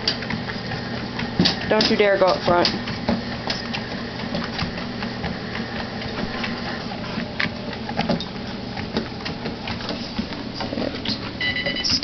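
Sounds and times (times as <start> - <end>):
treadmill motor hum and belt noise: 0.0 - 12.0.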